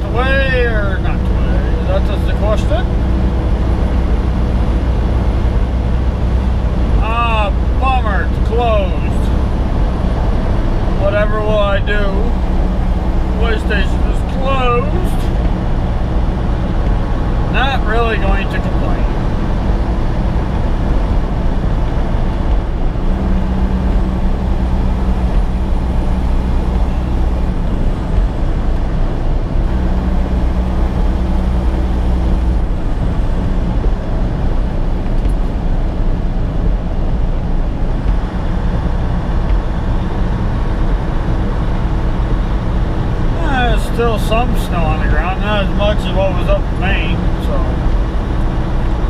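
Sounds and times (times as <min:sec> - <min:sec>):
low hum: 0:00.0 - 0:49.0
truck diesel engine drone: 0:00.0 - 0:49.0.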